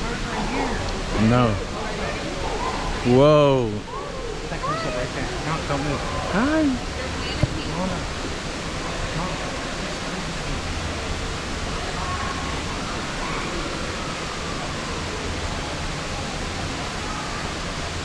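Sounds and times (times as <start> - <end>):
faint distant voices: 0.0 - 18.0.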